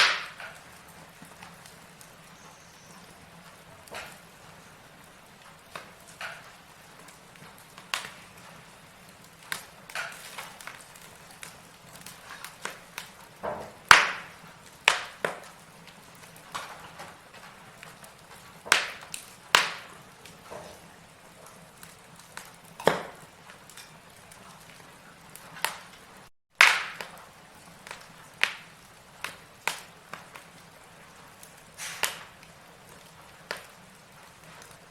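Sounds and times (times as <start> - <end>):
faint fire hiss: 0.0 - 34.9
fire crackling and popping: 0.0 - 34.9.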